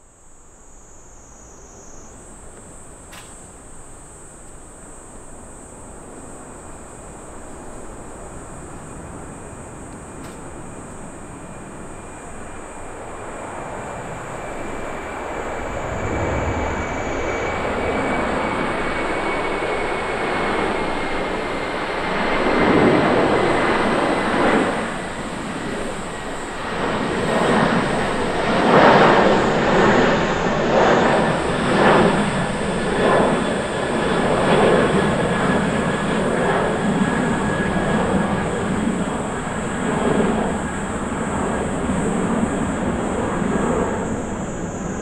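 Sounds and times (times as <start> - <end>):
jet engines roaring with high whine: 0.0 - 45.0.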